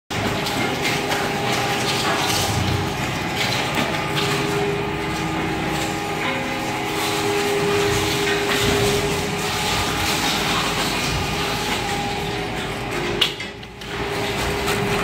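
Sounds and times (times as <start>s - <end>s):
rattling and clattering: 0.1s - 15.0s
shredder machine running: 0.1s - 15.0s.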